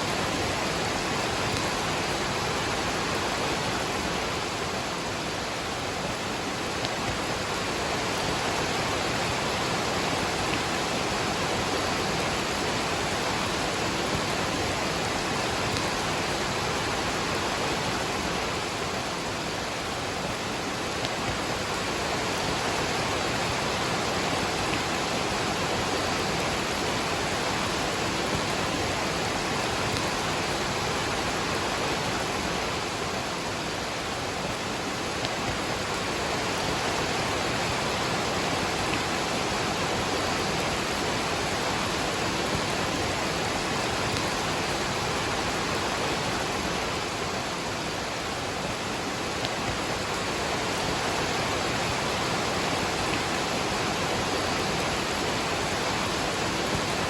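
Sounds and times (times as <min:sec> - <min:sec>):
falling rain: 0:00.0 - 0:57.0
waterfall rushing: 0:00.0 - 0:57.0.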